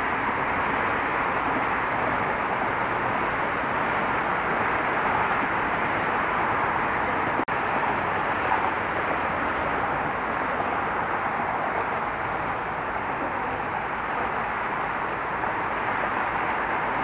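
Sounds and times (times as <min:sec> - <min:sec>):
road traffic hiss: 0:00.0 - 0:17.0.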